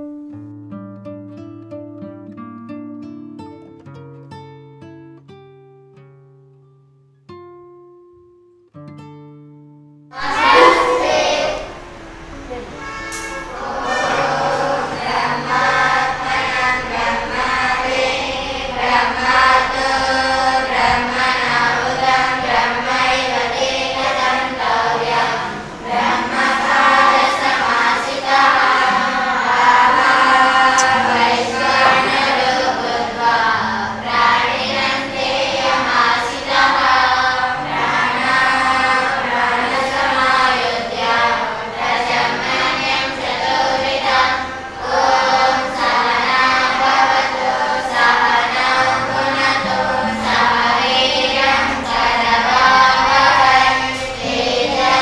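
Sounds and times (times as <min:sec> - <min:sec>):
girls chanting a prayer: 0:10.2 - 0:55.0.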